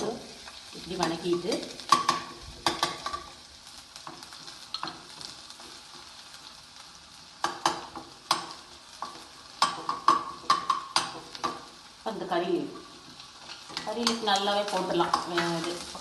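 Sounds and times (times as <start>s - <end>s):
garlic sizzling in oil: 0.0s - 16.0s.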